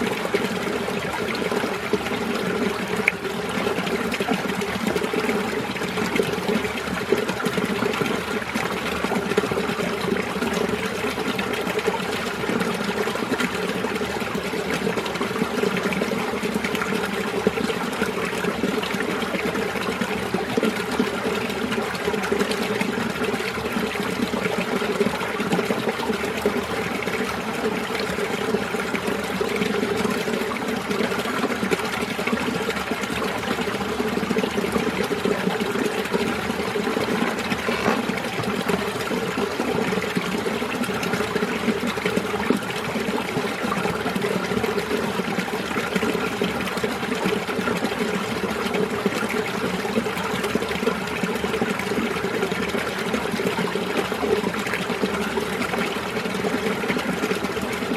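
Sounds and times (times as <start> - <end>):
stream babbling over rocks: 0.0 - 57.9.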